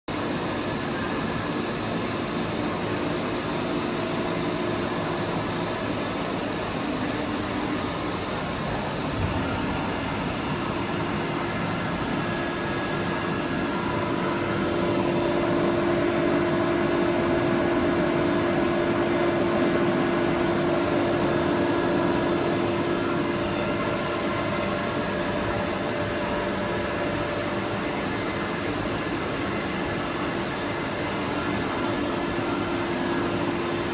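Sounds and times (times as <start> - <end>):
machining centre hum and whine: 0.1 - 33.9.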